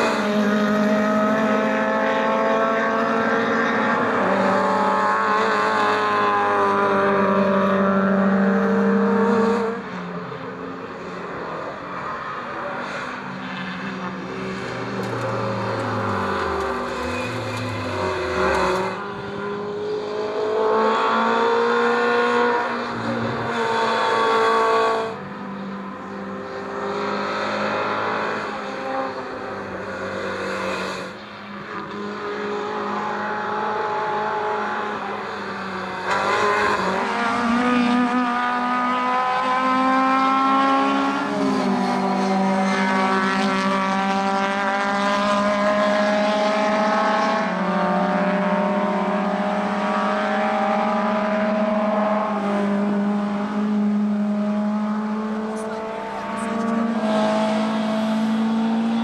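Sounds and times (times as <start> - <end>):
race car engines at full throttle: 0.0 - 59.0.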